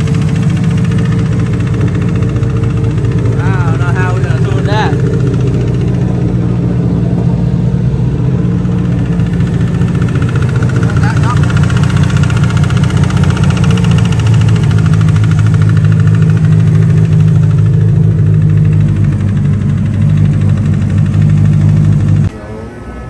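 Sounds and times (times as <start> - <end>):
turbocharged engine idling: 0.0 - 23.0.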